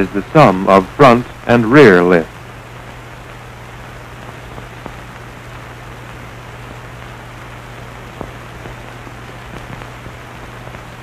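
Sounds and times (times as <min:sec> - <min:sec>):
faint crackles and clicks: 0:00.0 - 0:11.0
low hum: 0:00.0 - 0:11.0
steady hiss: 0:00.0 - 0:11.0.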